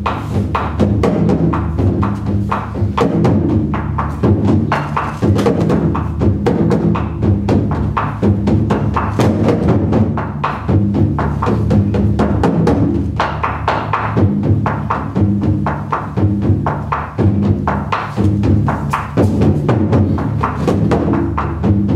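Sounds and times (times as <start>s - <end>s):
taiko drum hits: 0.0s - 21.9s.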